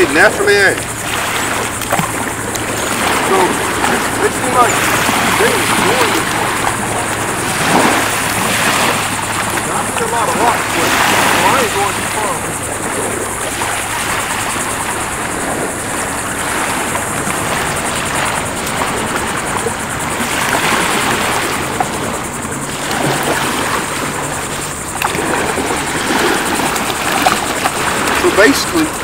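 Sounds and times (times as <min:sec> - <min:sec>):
small waves lapping: 0:00.0 - 0:29.0
wind on microphone: 0:00.0 - 0:29.0.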